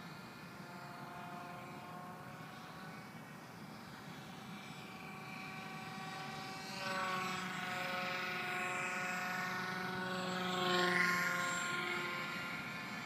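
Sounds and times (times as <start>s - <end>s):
model jet motor whining: 0.0s - 13.0s.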